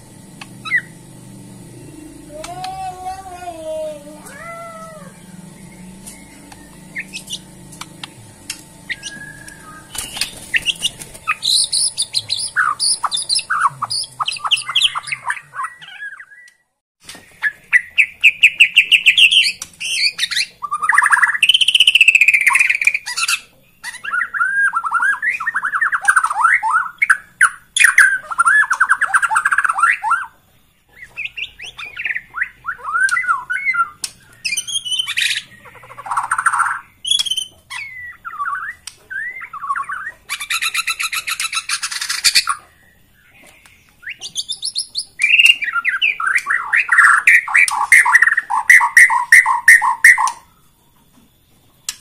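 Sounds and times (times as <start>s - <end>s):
bird singing trilled phrases: 0.6s - 1.0s, 1.8s - 16.6s, 17.2s - 50.7s.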